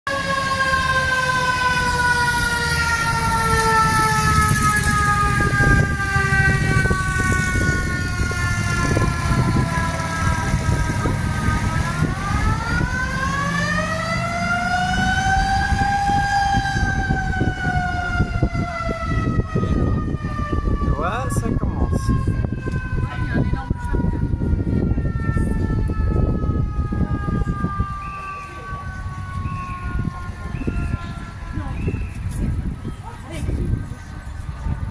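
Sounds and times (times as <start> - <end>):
low rumble of engines: 0.1 - 34.9
mechanical siren wailing: 0.1 - 34.9.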